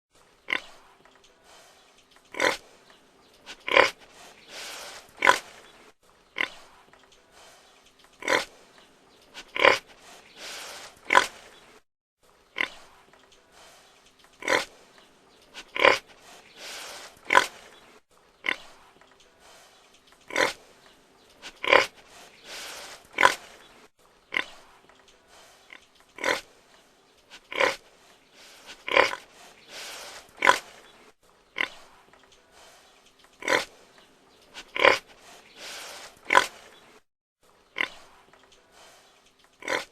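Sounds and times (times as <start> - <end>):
pig grunting: 0.4 - 11.8, 12.5 - 19.6, 20.2 - 37.0, 37.7 - 38.8, 39.5 - 39.9.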